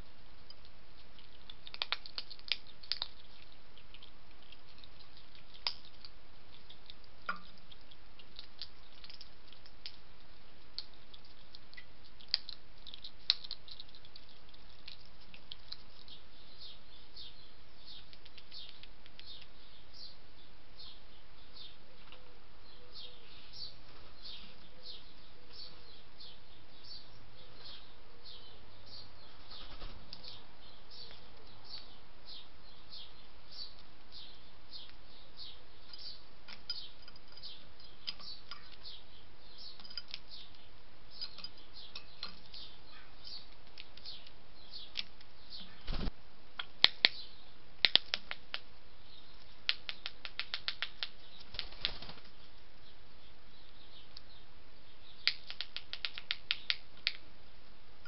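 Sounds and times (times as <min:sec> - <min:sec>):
birds pecking at a dish: 0:00.0 - 0:20.2, 0:23.9 - 0:54.4, 0:55.0 - 0:58.0.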